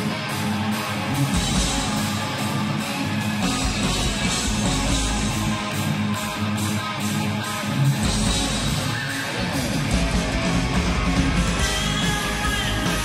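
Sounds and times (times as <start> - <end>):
heavy metal band playing: 0.0 - 13.0.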